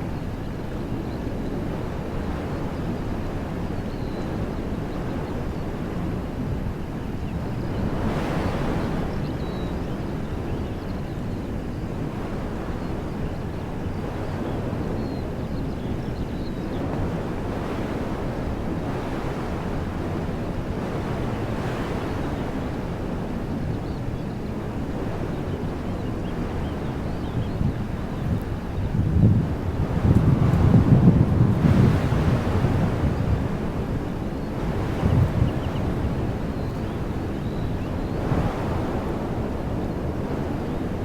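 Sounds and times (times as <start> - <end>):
wind blowing through trees: 0.0 - 41.0
wind rumble on microphone: 0.0 - 41.0.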